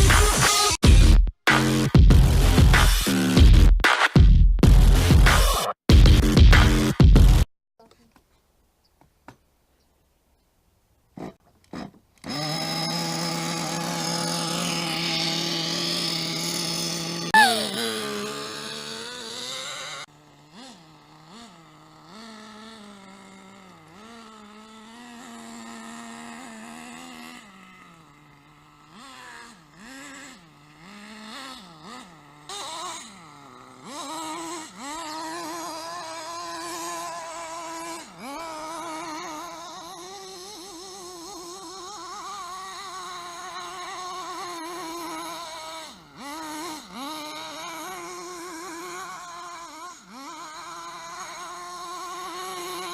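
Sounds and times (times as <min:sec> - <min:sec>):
toy car motor whining: 0:00.0 - 0:00.8, 0:11.2 - 0:52.9.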